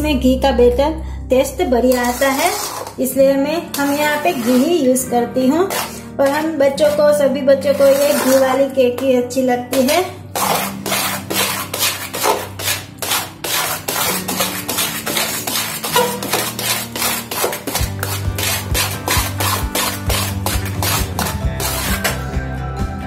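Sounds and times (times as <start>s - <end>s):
background music: 0.0s - 23.0s
stirring batter in steel bowl: 1.8s - 22.2s.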